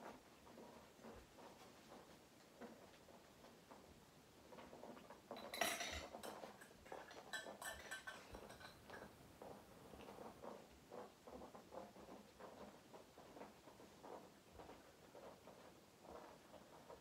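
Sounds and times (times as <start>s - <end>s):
kibble rattling inside ball: 0.0s - 17.0s.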